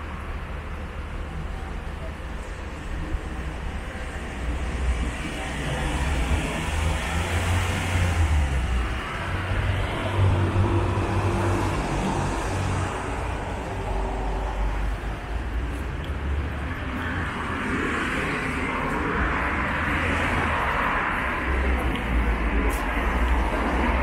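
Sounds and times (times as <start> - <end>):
cars passing: 0.0 - 24.0.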